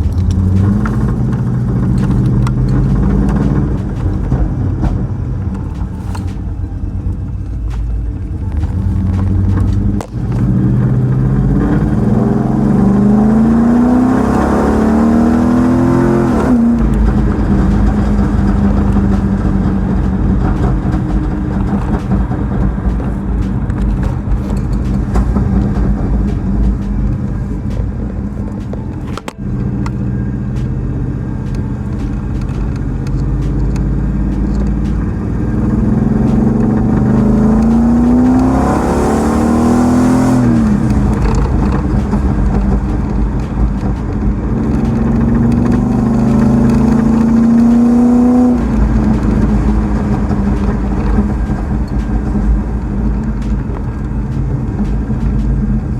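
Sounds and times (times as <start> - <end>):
car engine accelerating: 0.0 - 55.9
tyre and road noise: 0.0 - 55.9.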